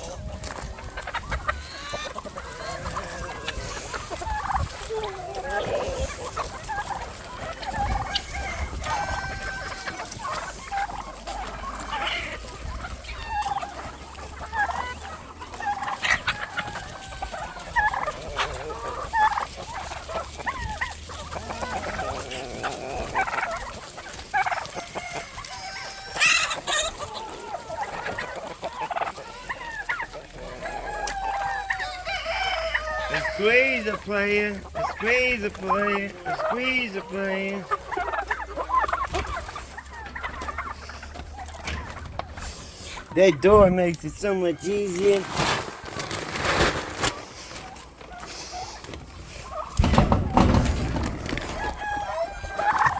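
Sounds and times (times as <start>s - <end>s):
roosters crowing: 0.0s - 43.6s, 47.0s - 52.9s
chickens clucking and squawking: 0.0s - 52.9s
turkeys gobbling: 0.0s - 52.9s.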